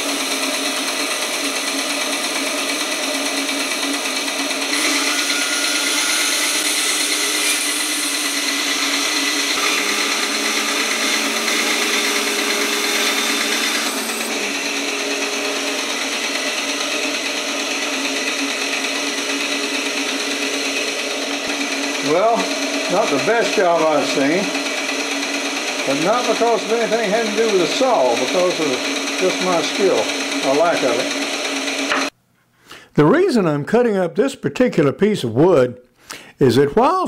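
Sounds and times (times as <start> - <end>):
bandsaw cutting wood: 0.0 - 32.1.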